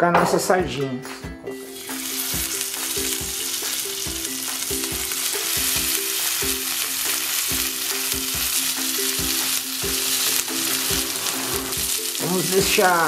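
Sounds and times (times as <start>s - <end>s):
fish sizzling in oil: 1.7s - 13.0s.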